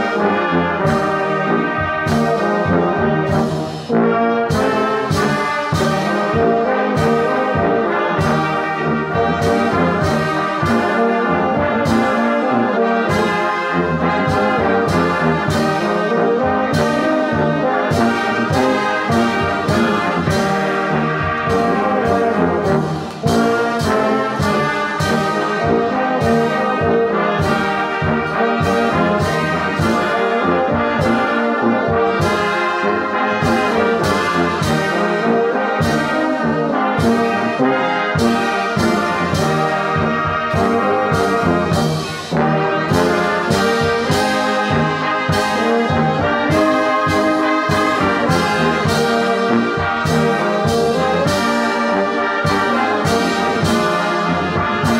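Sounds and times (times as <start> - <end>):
brass band playing a hymn: 0.0 - 54.9.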